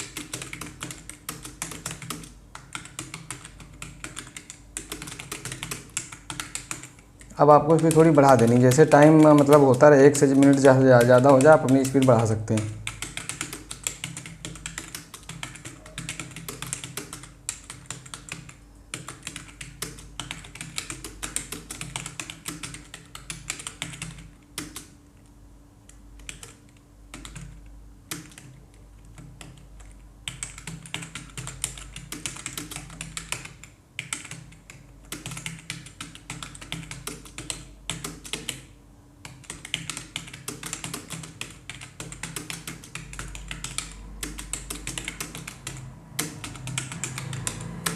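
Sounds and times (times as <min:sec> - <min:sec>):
fast typing on keyboard: 0:00.0 - 0:25.0, 0:26.2 - 0:47.9
steady low hum: 0:00.0 - 0:47.9.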